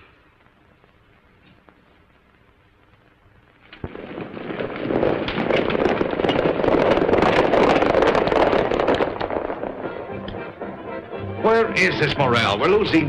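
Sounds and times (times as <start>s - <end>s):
horses galloping hoofbeats: 0.0s - 13.0s.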